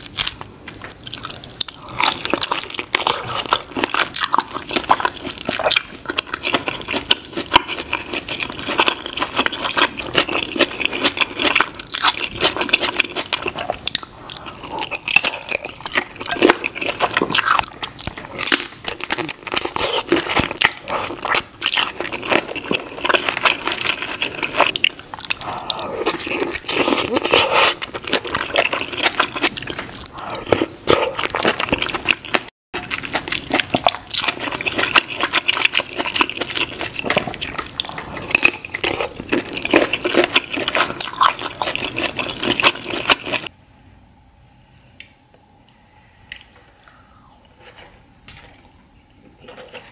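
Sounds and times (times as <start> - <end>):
wet chewing mouth sounds: 1.0 - 43.5.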